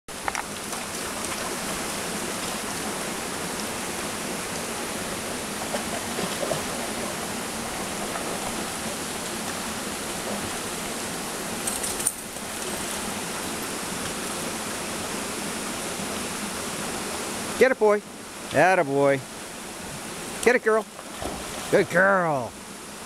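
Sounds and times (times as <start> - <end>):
stream rushing over rocks: 0.1 - 22.6.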